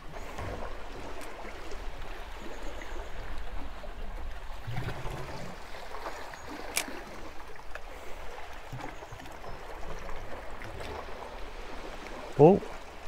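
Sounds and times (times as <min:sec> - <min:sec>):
water lapping against rocks: 0:00.0 - 0:13.0.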